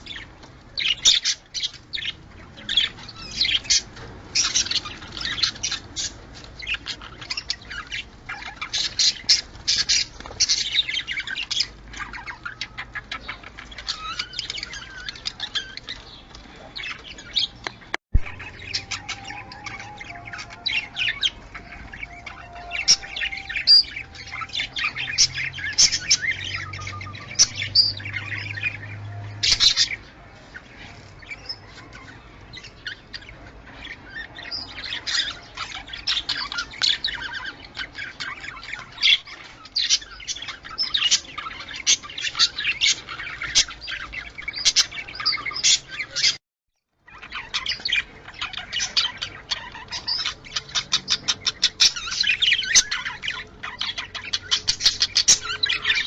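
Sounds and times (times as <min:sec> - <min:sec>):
budgerigars chattering: 0:00.0 - 0:46.4, 0:47.0 - 0:56.0.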